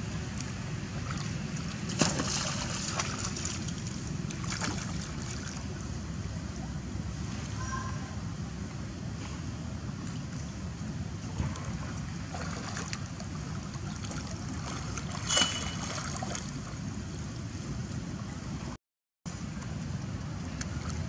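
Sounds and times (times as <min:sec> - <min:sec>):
water splashing and lapping: 0:00.0 - 0:07.6, 0:09.0 - 0:21.0.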